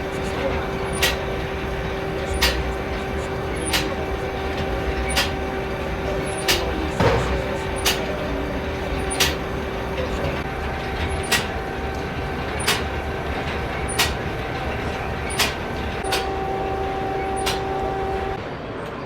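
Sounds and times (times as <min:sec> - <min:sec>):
steady hum: 0:00.0 - 0:18.4.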